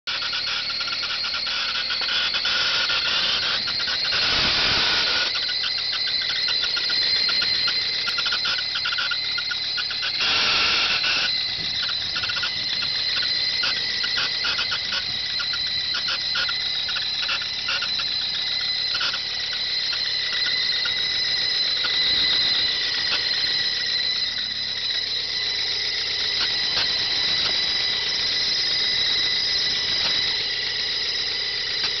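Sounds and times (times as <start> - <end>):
engine belt squealing: 0.0 - 32.0.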